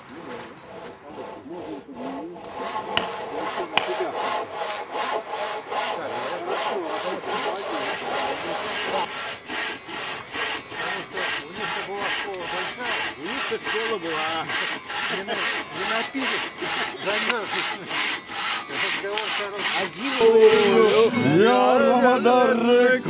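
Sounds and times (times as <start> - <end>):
hand saw cutting log: 0.1 - 21.2.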